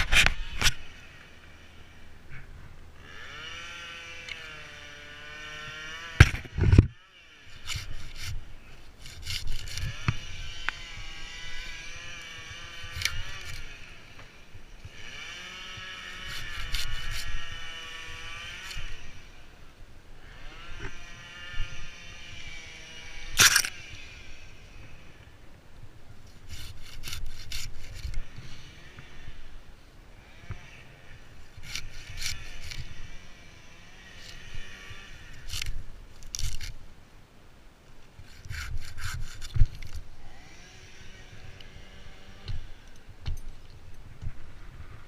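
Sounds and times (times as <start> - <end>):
chainsaw cutting wood: 0.0 - 2.1, 3.0 - 19.5, 20.2 - 25.2, 26.3 - 29.6, 30.2 - 36.8, 38.2 - 43.5.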